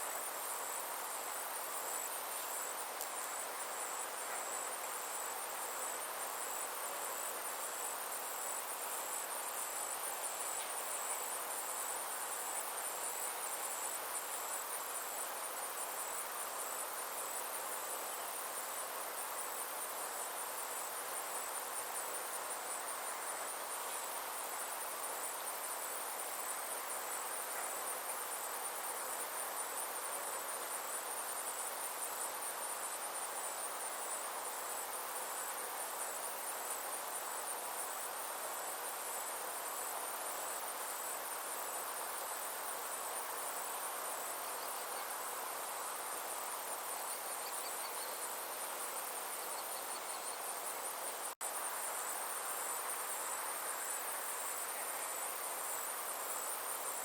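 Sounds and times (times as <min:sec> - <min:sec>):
insects chirring: 0:00.0 - 0:57.0
soft even hiss: 0:00.0 - 0:57.0.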